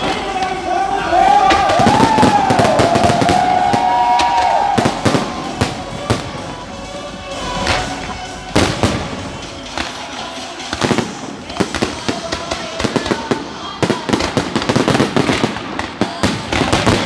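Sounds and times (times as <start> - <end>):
fireworks bangs and crackles: 1.2 - 17.0.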